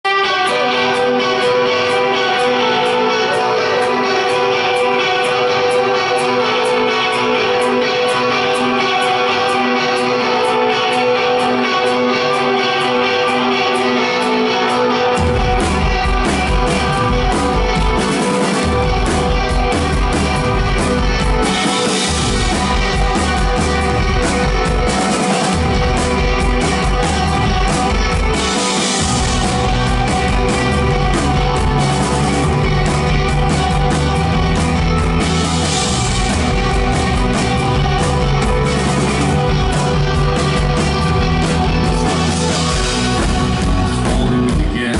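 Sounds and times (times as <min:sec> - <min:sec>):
bass: 0:00.0 - 0:44.9
drums: 0:00.0 - 0:44.9
electric guitar: 0:00.0 - 0:44.9.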